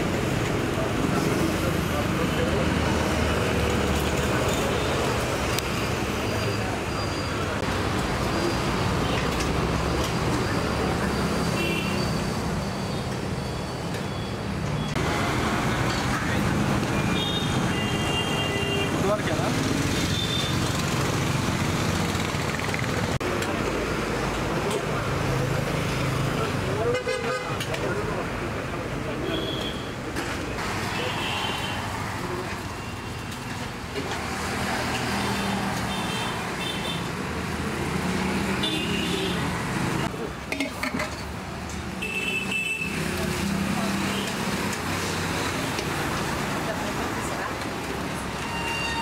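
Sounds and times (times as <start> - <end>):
roadside traffic: 0.0 - 49.0.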